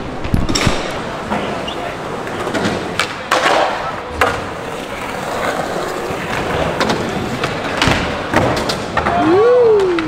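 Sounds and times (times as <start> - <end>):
skateboard wheels rolling: 0.0 - 10.0
skateboard clacking on ground: 0.1 - 10.0.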